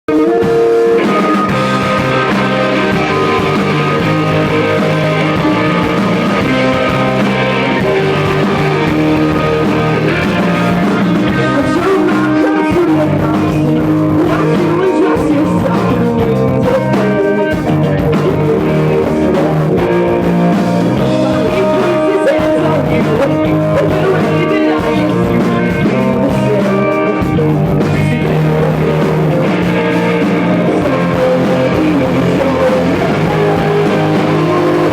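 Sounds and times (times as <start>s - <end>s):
electric guitar: 0.1s - 34.9s
rock band playing live: 0.1s - 34.9s.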